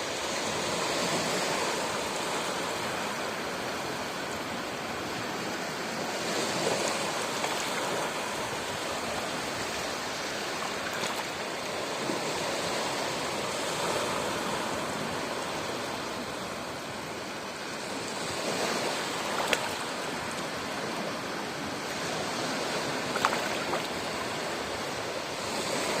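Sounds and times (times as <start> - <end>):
ocean waves washing in: 0.0 - 26.0.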